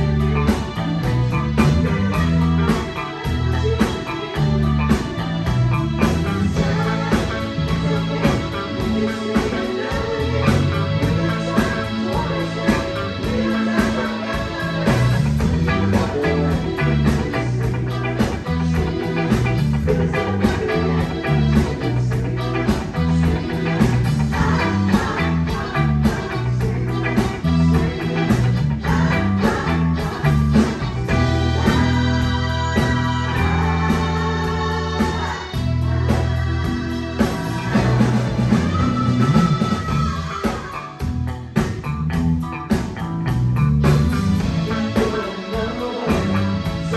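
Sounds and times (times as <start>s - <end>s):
live band playing a song: 0.0s - 46.9s.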